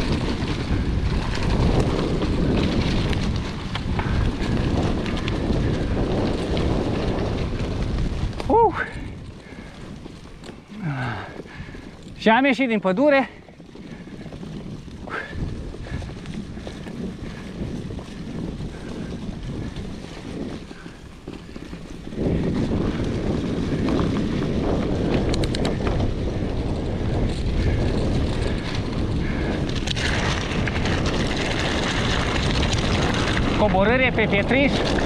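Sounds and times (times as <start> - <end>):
bike tyres rumbling: 0.0 - 35.0
wind buffeting microphone: 0.0 - 35.0.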